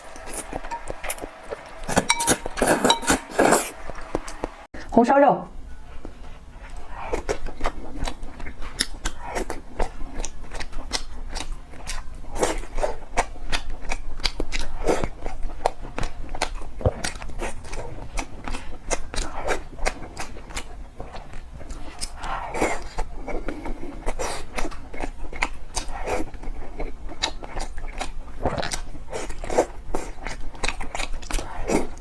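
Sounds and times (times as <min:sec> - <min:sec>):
wet chewing and lip-smacking: 0:05.7 - 0:32.0.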